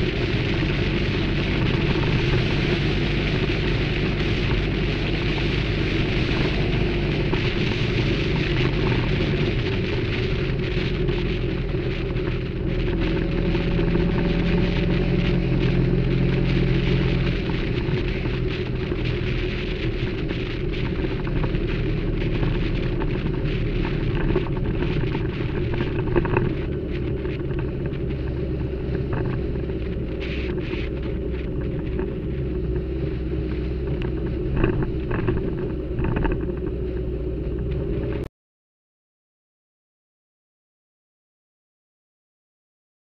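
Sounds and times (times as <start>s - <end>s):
motorcycle engine running: 0.0s - 38.3s
wind buffeting microphone: 0.0s - 38.3s.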